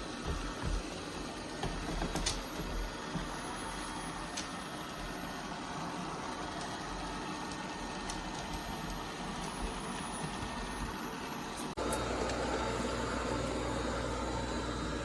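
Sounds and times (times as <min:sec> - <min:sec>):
robot vacuum humming: 0:00.0 - 0:15.0.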